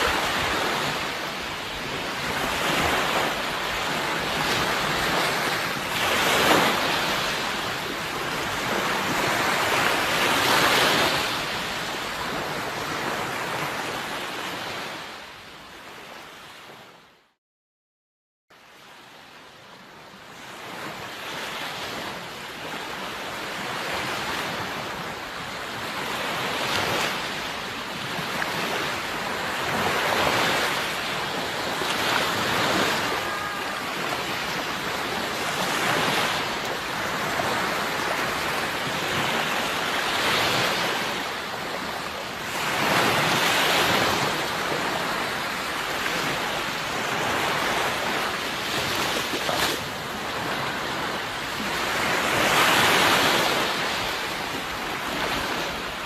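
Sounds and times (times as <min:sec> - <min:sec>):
sea waves breaking on shore: 0:00.0 - 0:17.2, 0:18.6 - 0:56.0
steady wind: 0:00.0 - 0:17.2, 0:18.6 - 0:56.0.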